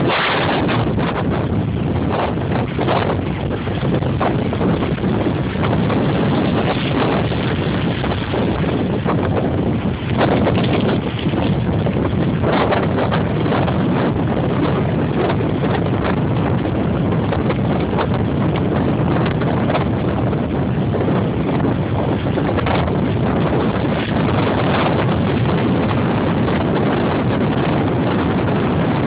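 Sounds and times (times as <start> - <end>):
storm waves breaking: 0.0 - 29.0
wind buffeting microphone: 0.0 - 29.0.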